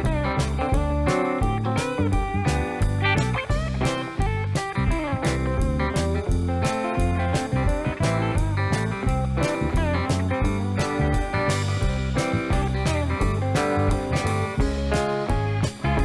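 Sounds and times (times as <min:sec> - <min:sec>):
bluesy guitar instrumental music: 0:00.0 - 0:16.0.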